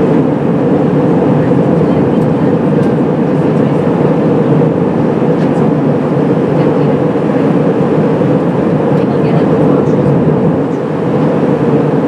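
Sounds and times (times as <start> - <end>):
jet engine drone: 0.0 - 12.0.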